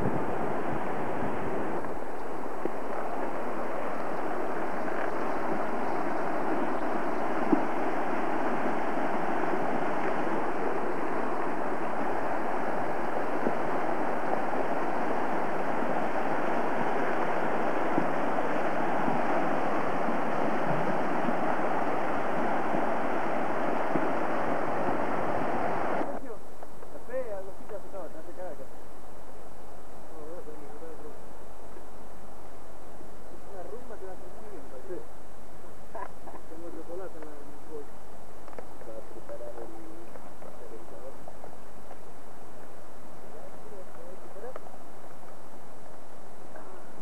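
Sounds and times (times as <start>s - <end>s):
river rushing over rocks: 0.0s - 47.0s.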